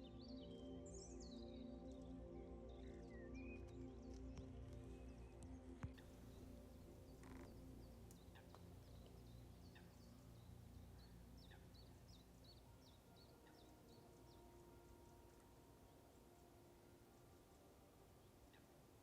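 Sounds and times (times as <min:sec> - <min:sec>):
faint songbird chirps: 0:00.0 - 0:19.0.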